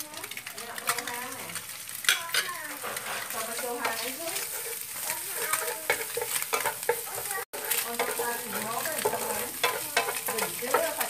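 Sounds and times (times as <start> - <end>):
food sizzling: 0.0 - 11.0
spatula knocking pan: 0.0 - 11.0
spatula scraping frying pan: 0.0 - 11.0.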